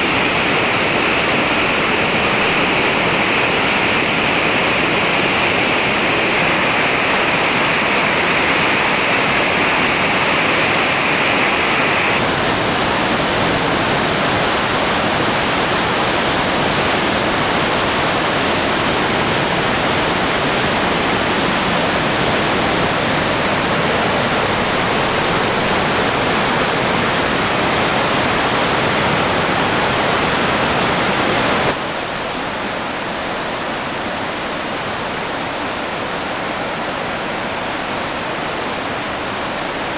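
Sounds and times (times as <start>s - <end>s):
river rushing white water: 0.0s - 39.9s.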